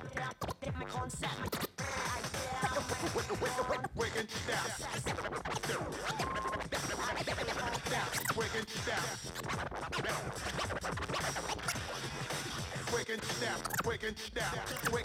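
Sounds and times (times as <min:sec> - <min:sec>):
hip-hop beat: 0:00.0 - 0:15.0
turntable scratching: 0:00.0 - 0:15.0.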